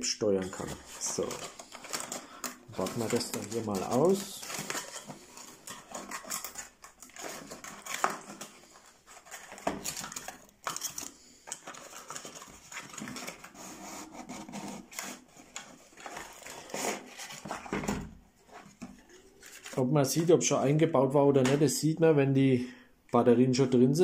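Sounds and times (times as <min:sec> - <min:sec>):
cardboard packaging rustling: 0:00.3 - 0:20.3.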